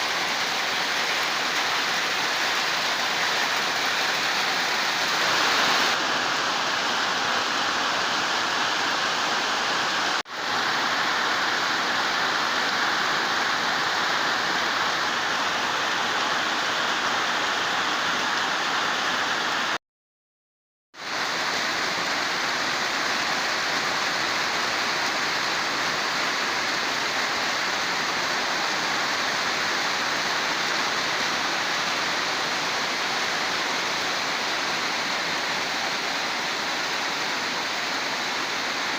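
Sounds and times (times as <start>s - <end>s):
water rushing: 0.0s - 19.8s, 21.0s - 38.9s.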